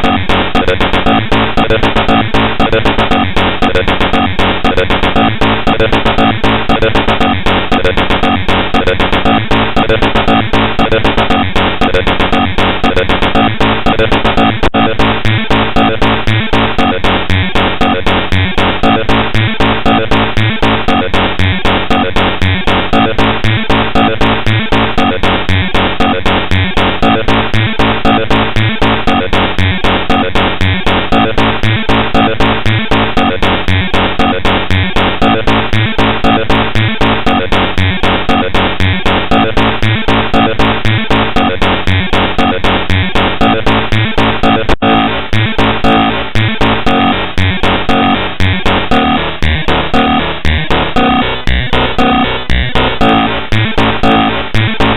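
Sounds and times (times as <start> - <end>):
harsh electronic music: 0.0 - 54.9.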